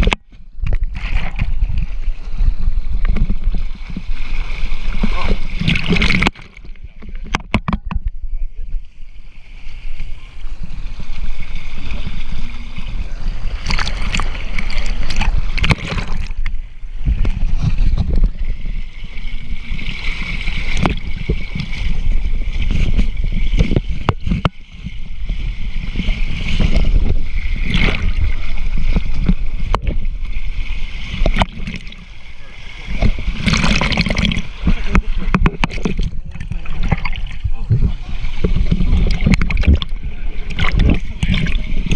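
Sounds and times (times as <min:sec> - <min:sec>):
water rushing and splashing: 0:00.0 - 0:41.9.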